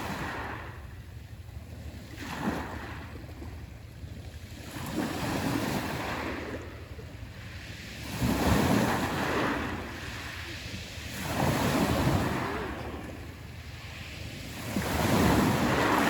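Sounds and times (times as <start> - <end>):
waves breaking on shore: 0.0 - 16.0.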